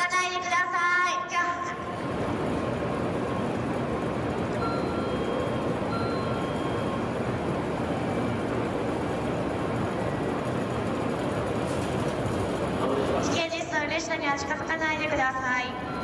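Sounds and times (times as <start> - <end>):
train running slowly: 0.0 - 16.0.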